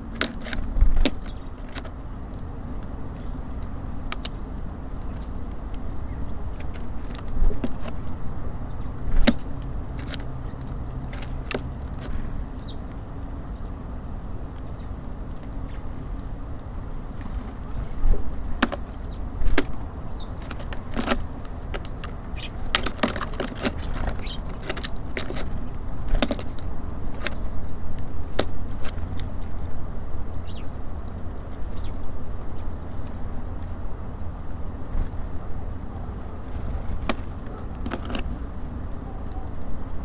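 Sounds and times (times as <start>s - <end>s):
birds pecking and landing: 0.0s - 40.0s
low rumble of city traffic: 0.0s - 40.0s.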